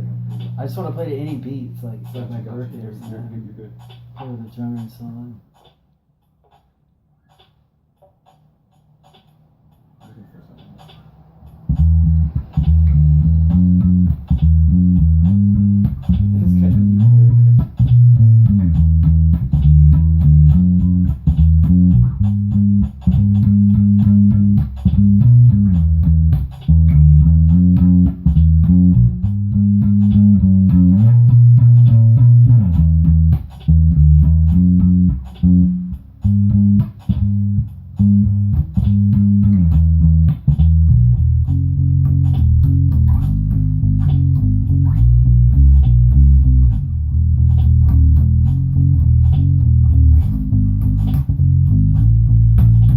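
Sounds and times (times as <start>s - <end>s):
bass guitar playing low notes: 0.0s - 5.4s, 10.0s - 52.9s
faint percussion ticks: 0.0s - 52.9s.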